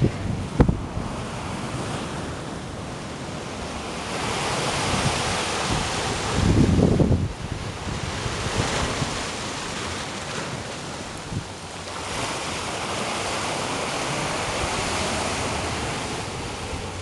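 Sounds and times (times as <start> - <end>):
churning sea water: 0.0 - 17.0
wind buffeting microphone: 0.0 - 17.0.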